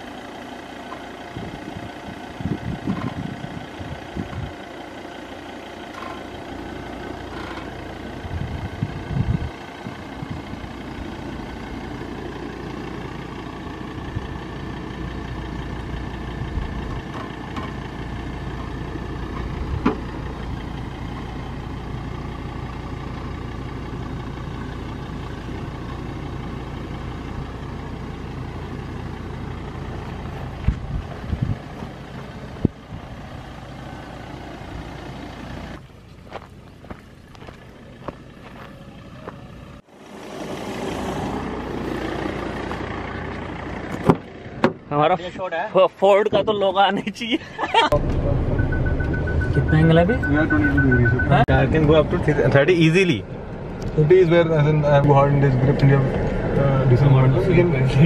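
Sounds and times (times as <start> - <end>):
diesel engine running at low revs: 0.0 - 58.0.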